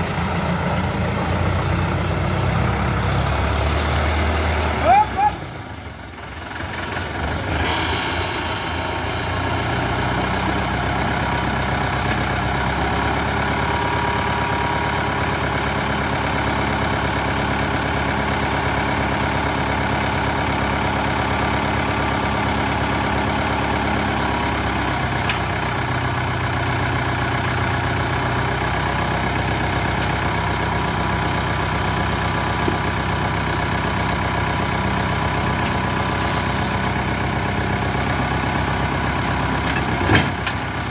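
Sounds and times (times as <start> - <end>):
diesel engine of heavy machinery: 0.0 - 40.9.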